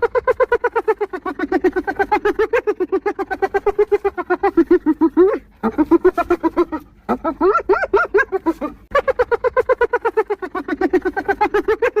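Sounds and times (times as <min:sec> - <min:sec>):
hyena giggling: 0:00.0 - 0:12.0.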